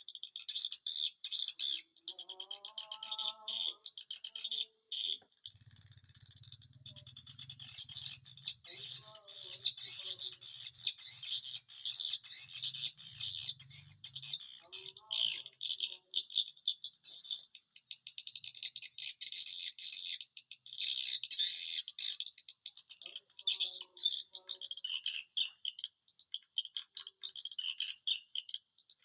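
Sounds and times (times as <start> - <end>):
lower bird calls: 0.0 - 29.0
swiftlets rattling twitter: 0.0 - 29.0.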